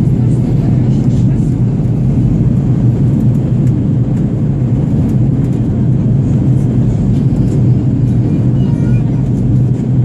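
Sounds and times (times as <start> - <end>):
aircraft cabin engine drone: 0.0 - 10.0.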